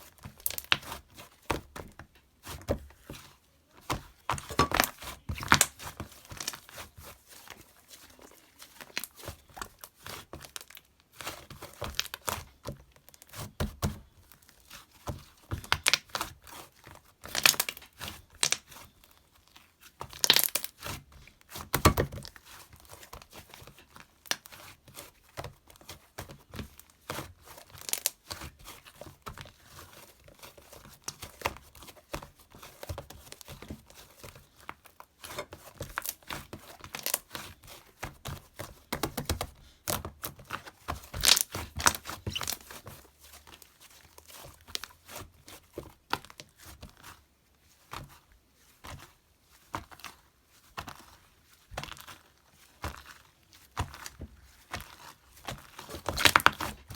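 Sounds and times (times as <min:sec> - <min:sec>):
crinkling and rustling handling noises: 0:00.0 - 0:56.9.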